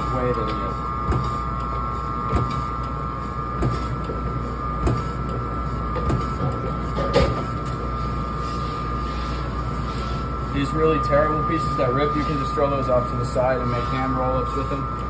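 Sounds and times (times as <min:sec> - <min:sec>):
meat slicer humming and whining: 0:00.0 - 0:15.0.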